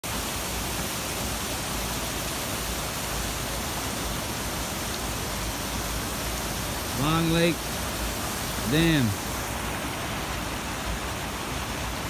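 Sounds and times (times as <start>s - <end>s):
water pouring through a dam: 0.0s - 12.0s.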